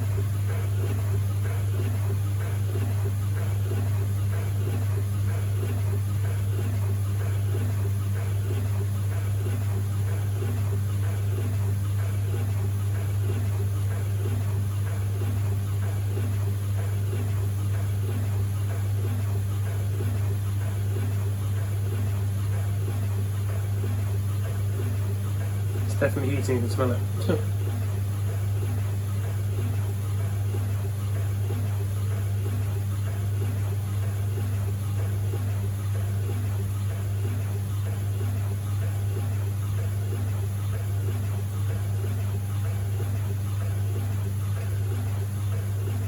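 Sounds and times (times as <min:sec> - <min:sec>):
tumble dryer motor hum: 0:00.0 - 0:46.0.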